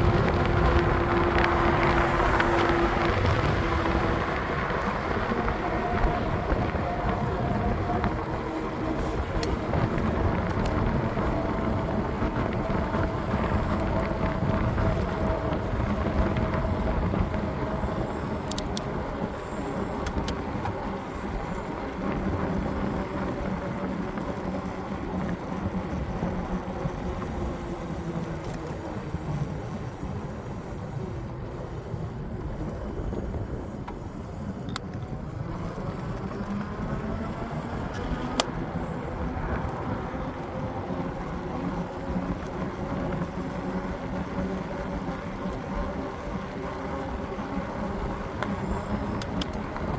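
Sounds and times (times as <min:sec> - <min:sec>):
rolling road noise: 0:00.0 - 0:49.9
wind buffeting microphone: 0:00.0 - 0:49.9.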